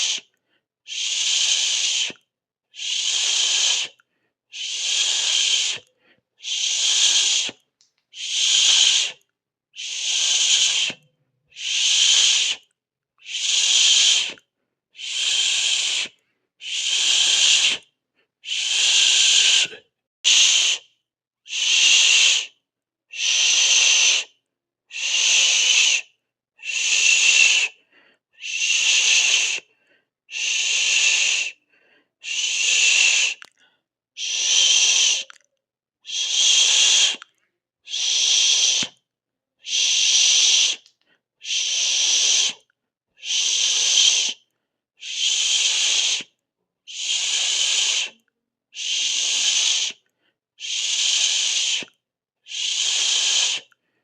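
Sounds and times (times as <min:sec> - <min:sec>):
person hissing: 0:00.0 - 0:00.3, 0:00.9 - 0:09.2, 0:09.8 - 0:14.4, 0:15.0 - 0:20.9, 0:21.5 - 0:33.6, 0:34.2 - 0:35.4, 0:36.0 - 0:37.3, 0:37.9 - 0:39.0, 0:39.6 - 0:44.4, 0:45.0 - 0:48.2, 0:48.8 - 0:50.0, 0:50.6 - 0:53.8.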